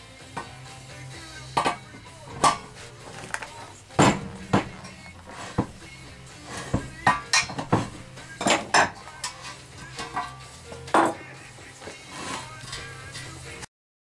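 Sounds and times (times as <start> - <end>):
tools clanking against metal tank: 0.3 - 0.7, 1.3 - 13.4.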